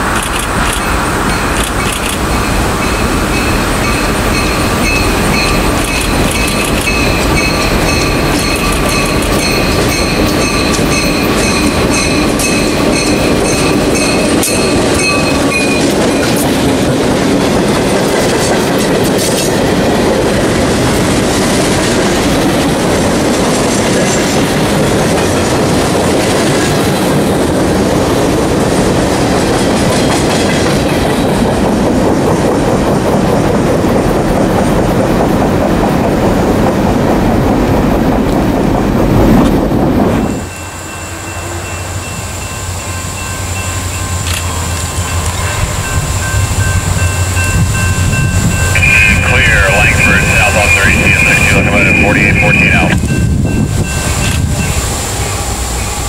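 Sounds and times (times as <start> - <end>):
freight train cars clacking: 0.0 - 56.0.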